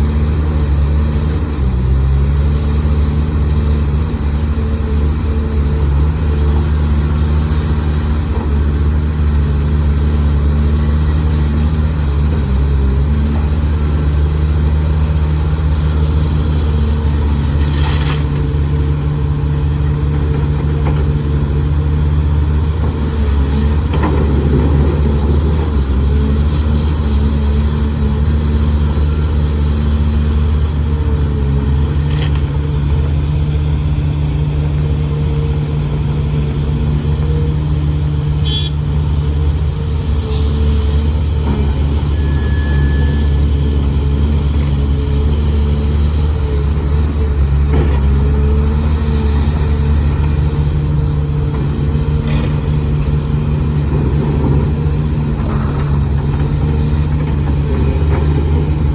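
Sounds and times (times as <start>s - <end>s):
excavator engine running: 0.0s - 58.9s.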